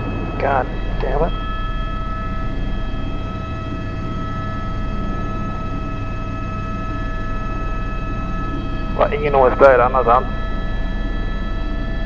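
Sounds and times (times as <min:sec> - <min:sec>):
helicopter engine and rotors: 0:00.0 - 0:12.0.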